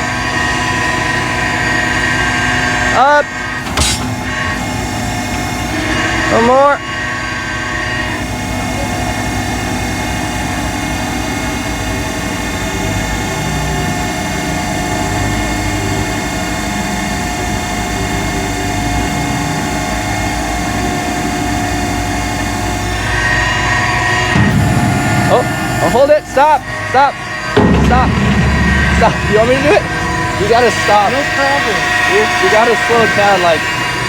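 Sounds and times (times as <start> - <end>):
crane engine and hydraulics droning: 0.0 - 34.0.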